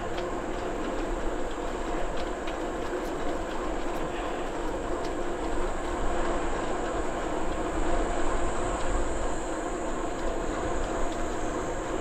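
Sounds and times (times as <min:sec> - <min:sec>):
faint ticks: 0:00.0 - 0:07.7, 0:08.7 - 0:12.0
bicycle tyres humming: 0:00.0 - 0:12.0.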